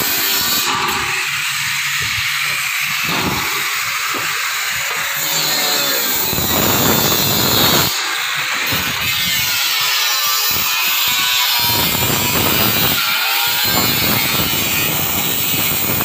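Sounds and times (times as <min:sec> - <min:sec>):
angle grinder cutting metal: 0:00.0 - 0:16.0.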